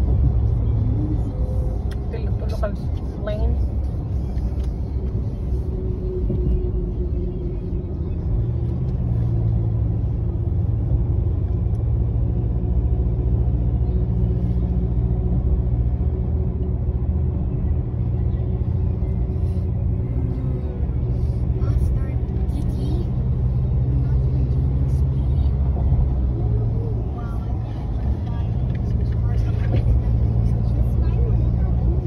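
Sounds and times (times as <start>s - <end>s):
car interior road rumble: 0.0s - 32.0s.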